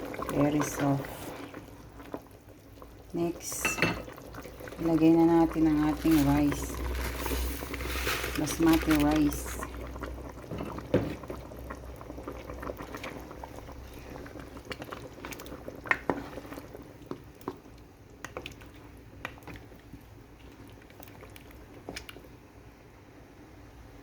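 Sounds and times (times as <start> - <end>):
pot boiling and bubbling: 0.0 - 24.0.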